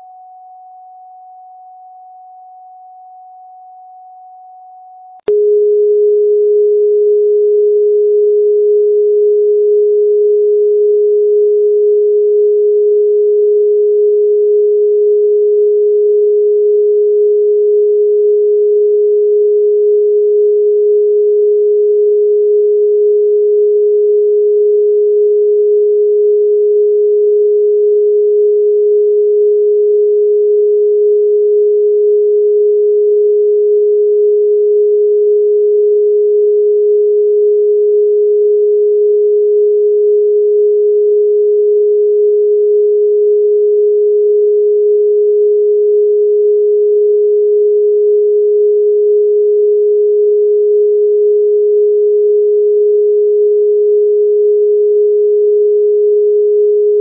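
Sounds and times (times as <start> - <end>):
steady sine-wave tone: 0.0 - 57.0.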